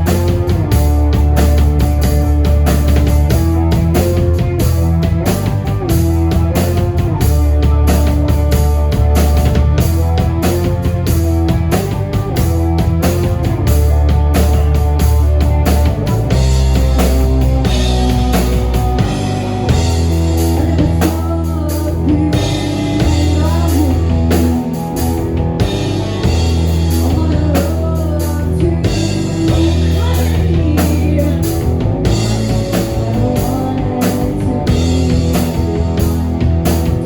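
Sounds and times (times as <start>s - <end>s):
drum kit: 0.0s - 37.0s
guitar: 0.0s - 37.0s
long held bass notes: 0.0s - 37.0s.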